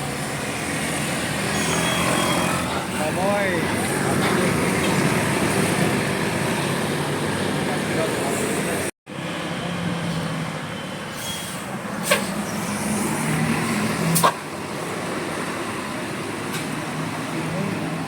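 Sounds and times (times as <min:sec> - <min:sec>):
roadside traffic noise: 0:00.0 - 0:18.0.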